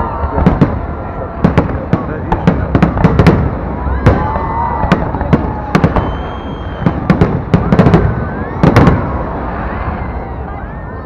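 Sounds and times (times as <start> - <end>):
fireworks bangs: 0.0 - 10.5.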